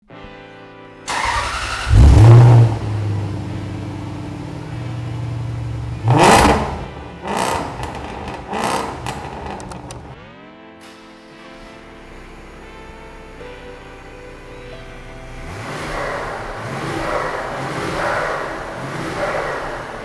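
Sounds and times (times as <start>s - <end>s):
car engine revving: 1.1s - 10.2s, 12.0s - 20.0s
car engine starting and idling: 1.1s - 10.2s, 11.3s - 20.0s.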